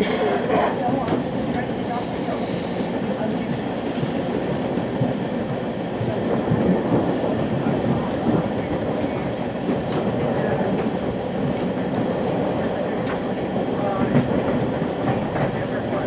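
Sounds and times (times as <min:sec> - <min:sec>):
rail car rumbling and rattling: 0:00.0 - 0:16.0.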